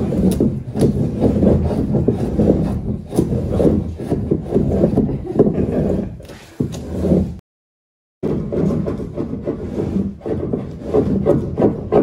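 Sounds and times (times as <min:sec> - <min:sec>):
blade scraping wood: 0:00.0 - 0:07.4, 0:08.2 - 0:12.0.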